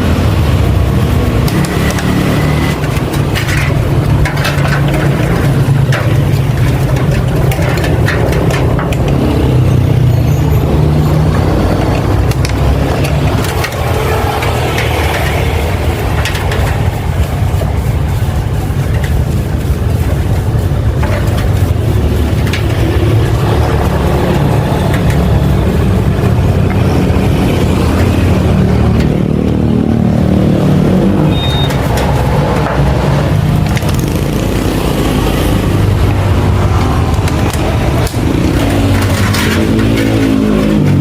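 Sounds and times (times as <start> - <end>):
clicks and knocks: 0.2 - 41.0.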